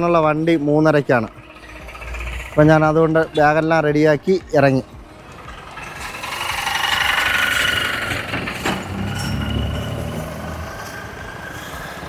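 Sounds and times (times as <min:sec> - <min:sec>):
vehicle engine running: 0:01.2 - 0:03.6, 0:04.4 - 0:12.0.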